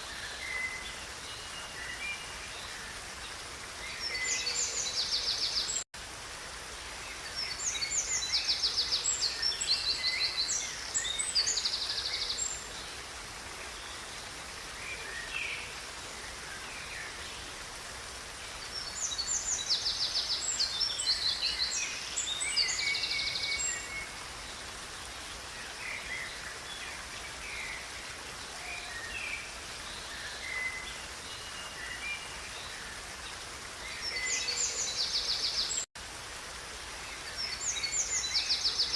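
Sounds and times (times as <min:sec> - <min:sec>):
songbirds singing: 0:00.0 - 0:05.8, 0:06.6 - 0:35.9, 0:37.0 - 0:38.9
river water rushing: 0:00.0 - 0:38.9.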